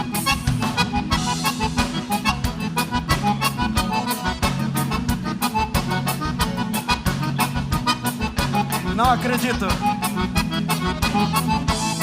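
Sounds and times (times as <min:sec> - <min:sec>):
accordion-led dance band: 0:00.0 - 0:12.0
drum beat and bass: 0:00.0 - 0:12.0.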